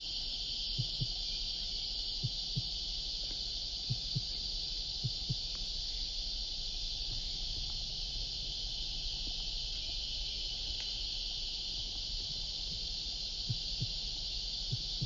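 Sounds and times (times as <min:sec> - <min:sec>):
cicada chorus drone: 0:00.0 - 0:15.0.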